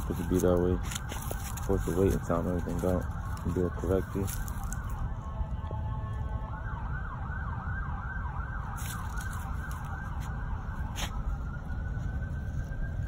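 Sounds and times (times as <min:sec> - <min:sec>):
distant siren wailing and yelping: 0:00.0 - 0:13.0.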